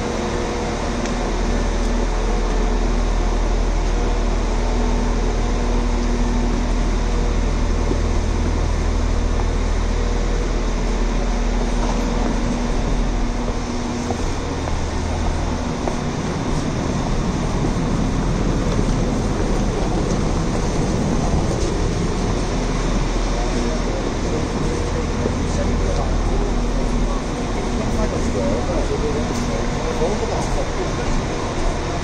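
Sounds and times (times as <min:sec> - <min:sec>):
idling train hum: 0:00.0 - 0:32.0
wide rushing noise: 0:00.0 - 0:32.0.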